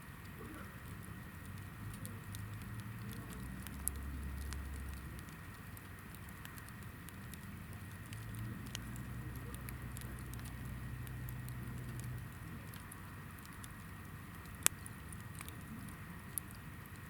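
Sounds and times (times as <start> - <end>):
campfire crackling and popping: 0.0 - 17.0
low steady hum: 0.0 - 17.0.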